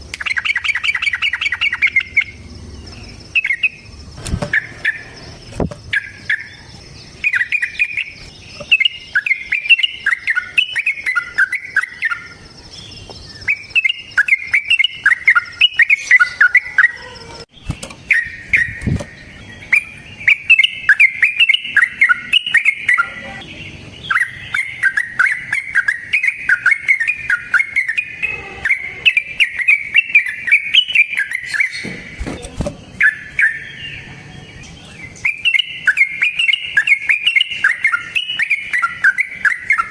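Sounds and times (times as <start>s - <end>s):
bird singing bubbly chattering song: 0.0s - 39.9s.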